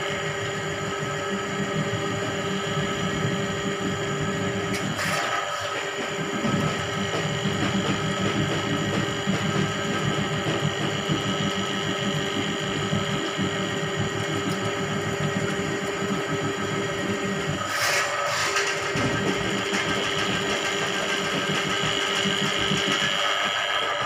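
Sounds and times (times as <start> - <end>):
drain-cleaning machine running: 0.0 - 24.0.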